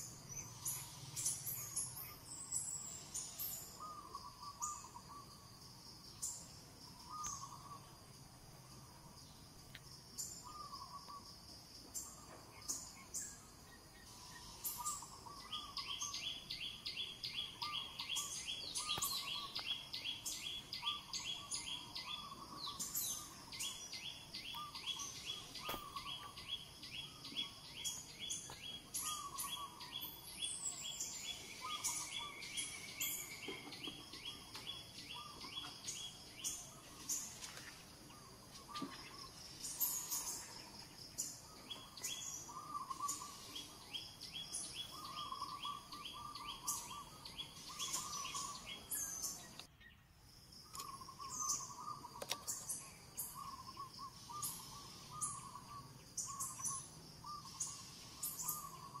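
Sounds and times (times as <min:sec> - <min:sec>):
lower bird chirps: 0:00.0 - 0:59.0.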